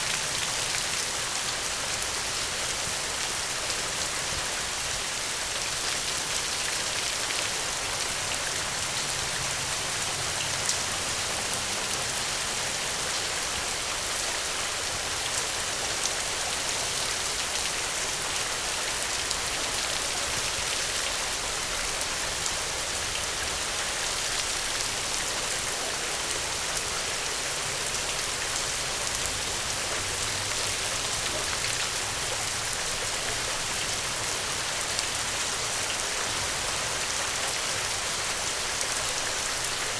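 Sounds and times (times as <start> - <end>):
gentle rain hiss: 0.0 - 39.9.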